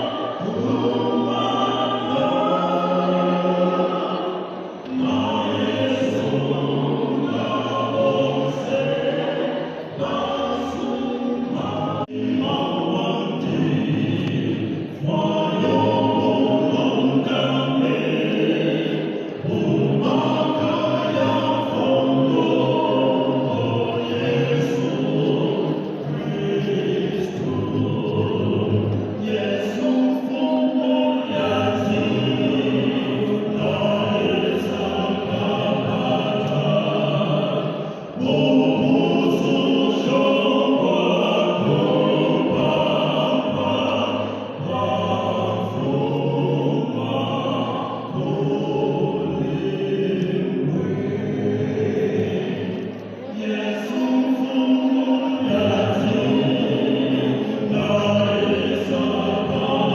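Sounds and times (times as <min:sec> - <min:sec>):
vocal quartet singing in harmony: 0:00.0 - 0:59.9.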